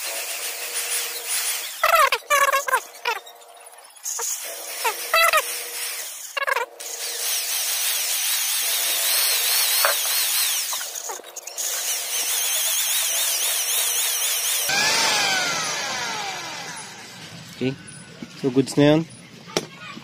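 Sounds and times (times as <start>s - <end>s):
electric drill whining: 0.0s - 3.3s, 4.0s - 18.5s
valve grinding against seat: 0.0s - 18.4s.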